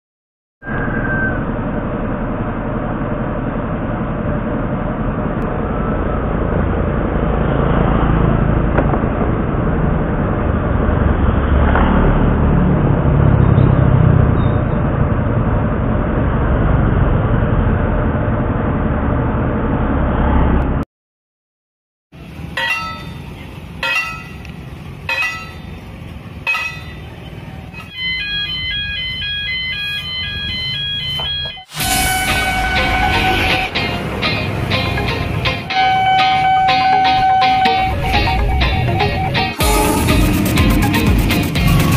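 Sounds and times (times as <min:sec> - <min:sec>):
steady traffic hum: 0:00.6 - 0:20.8, 0:22.2 - 0:41.9
motorcycle and scooter engines: 0:01.0 - 0:20.8, 0:22.2 - 0:31.6, 0:32.4 - 0:41.9.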